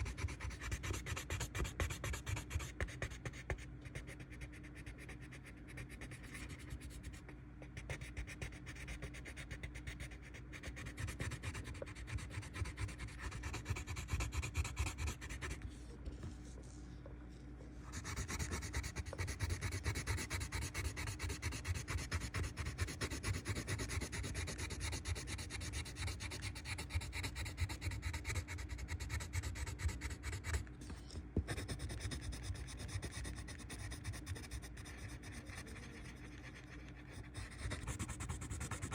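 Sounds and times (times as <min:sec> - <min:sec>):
pencil shading on paper: 0:00.0 - 0:16.5, 0:17.9 - 0:30.6, 0:31.4 - 0:38.9.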